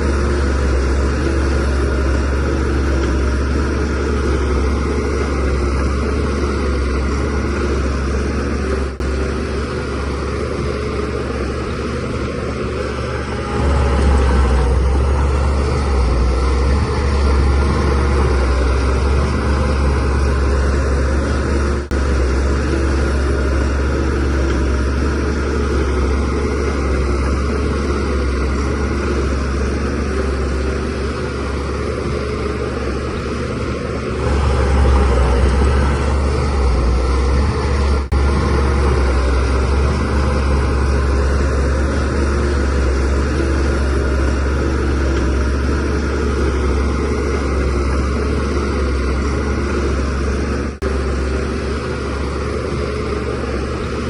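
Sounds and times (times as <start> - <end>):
bulldozer diesel engine under load: 0.0 - 54.0
track and blade noise: 0.0 - 54.0.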